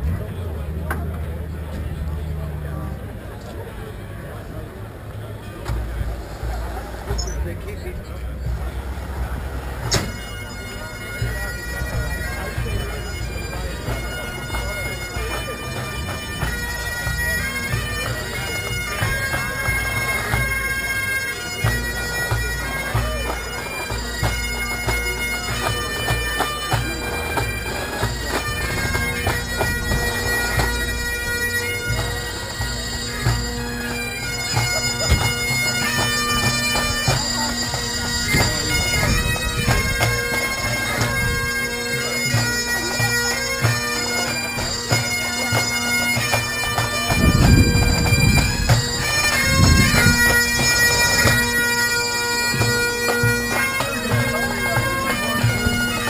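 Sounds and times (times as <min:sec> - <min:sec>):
bagpipes playing: 0:03.9 - 0:56.0.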